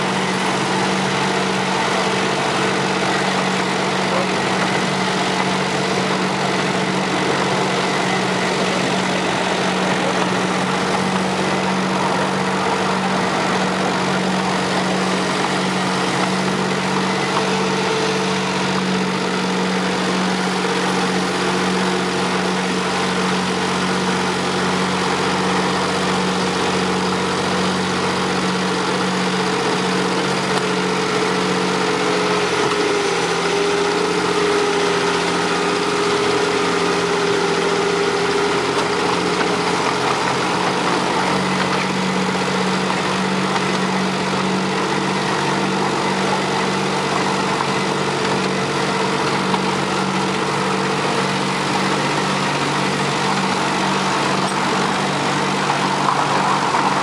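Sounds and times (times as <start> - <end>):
miniature locomotive engine drone: 0.0 - 57.0
rushing noise of running train: 0.0 - 57.0.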